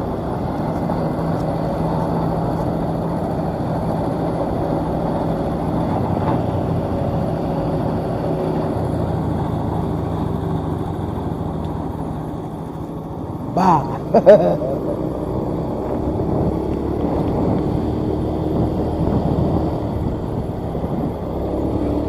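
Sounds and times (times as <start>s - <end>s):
combine harvester engine running: 0.0s - 22.0s.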